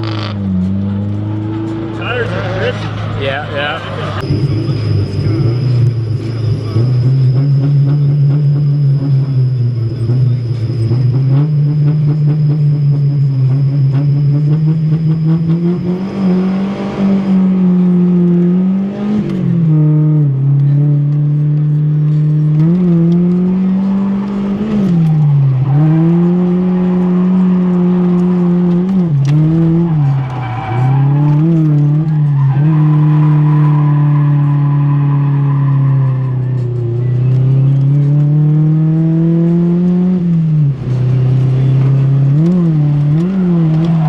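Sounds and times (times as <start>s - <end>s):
race car engine revving high: 0.0s - 44.0s.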